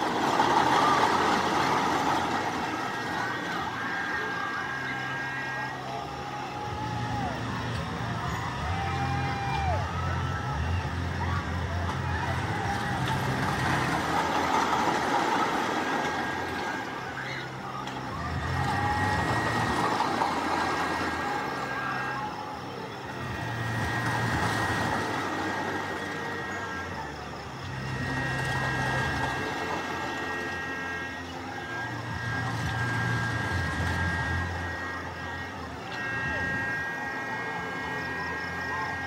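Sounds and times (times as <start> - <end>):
faint high whine: 0.0 - 39.0
ride machinery engine drone: 0.0 - 39.0.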